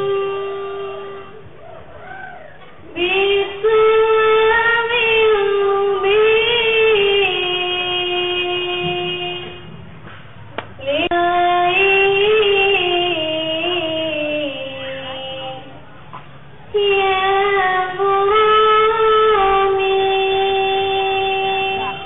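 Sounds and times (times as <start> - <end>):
woman singing ornamented held notes: 0.0 - 1.5, 2.9 - 9.6, 10.8 - 15.8, 16.7 - 22.0.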